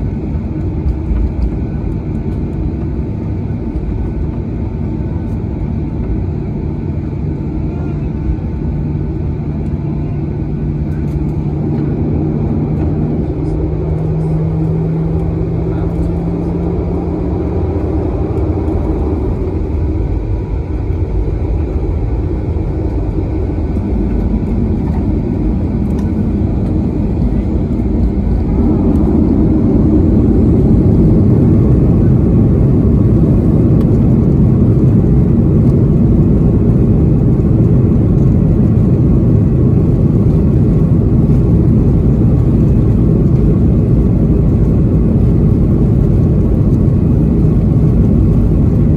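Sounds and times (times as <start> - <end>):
jet engine rumble inside cabin: 0.0 - 48.9.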